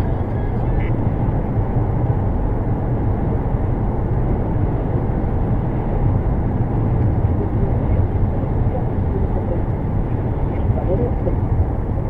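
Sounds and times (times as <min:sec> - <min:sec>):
moving car rumble: 0:00.0 - 0:12.0.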